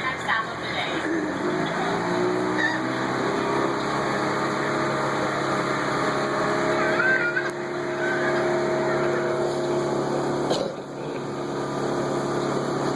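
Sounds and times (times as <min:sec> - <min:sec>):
boat motor running: 0:00.0 - 0:12.9.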